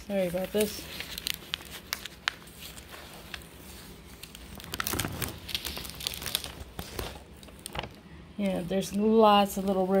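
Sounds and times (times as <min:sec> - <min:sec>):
plastic film and paper crinkling: 0:00.0 - 0:10.0.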